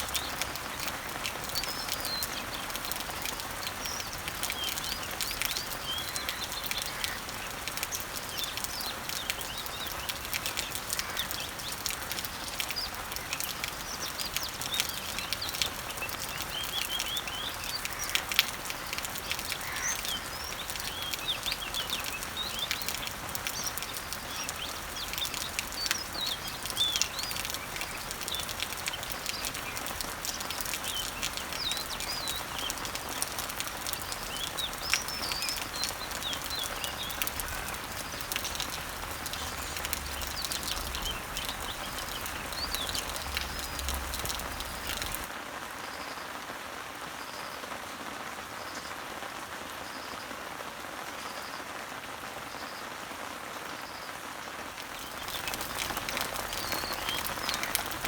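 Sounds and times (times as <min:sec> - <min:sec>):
birds singing and chirping: 0:00.0 - 0:45.3, 0:54.8 - 0:58.0
water drips: 0:00.0 - 0:45.3, 0:54.8 - 0:58.0
rain pattering on leaves: 0:00.0 - 0:58.0.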